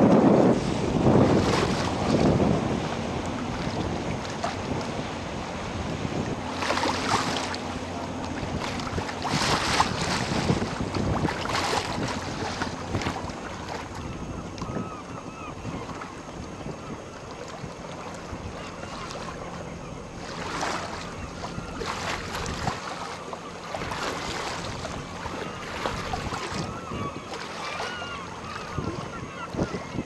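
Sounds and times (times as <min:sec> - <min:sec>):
wind buffeting microphone: 0:00.0 - 0:22.9, 0:23.7 - 0:27.4, 0:28.0 - 0:30.0
water lapping and splashing: 0:00.0 - 0:30.0.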